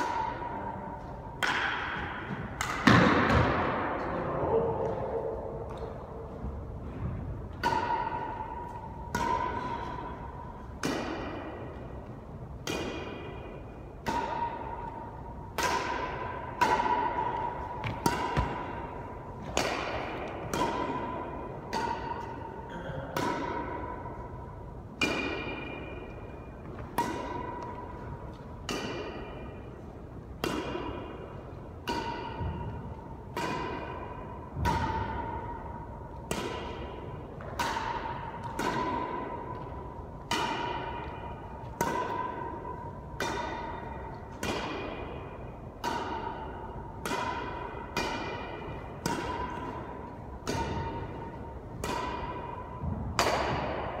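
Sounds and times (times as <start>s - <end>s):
racket hitting shuttlecock: 0.0s - 4.0s, 4.6s - 54.0s.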